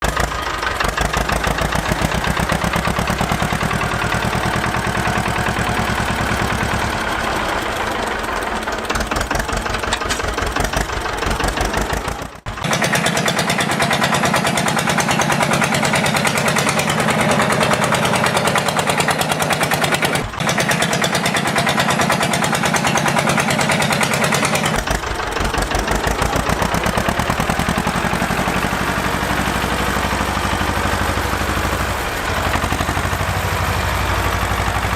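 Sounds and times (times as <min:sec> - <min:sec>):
tractor engine chugging: 0:00.0 - 0:34.9.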